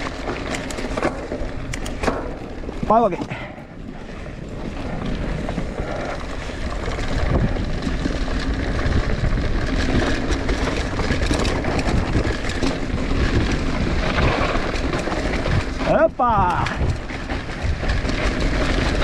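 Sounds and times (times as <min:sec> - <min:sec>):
bike rattling and knocking: 0:00.0 - 0:19.0
bike tyres on dirt: 0:00.0 - 0:19.0
wind buffeting microphone: 0:01.3 - 0:19.0.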